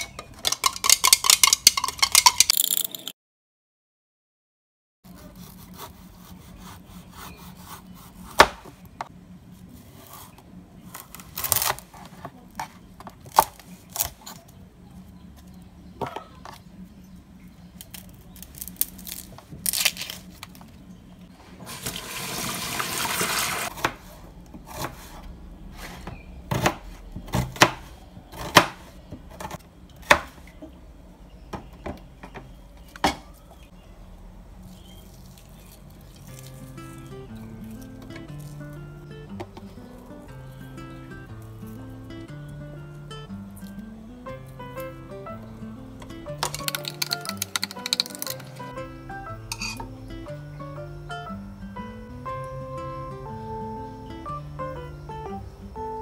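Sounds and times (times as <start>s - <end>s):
low steady hum: 5.1s - 56.0s.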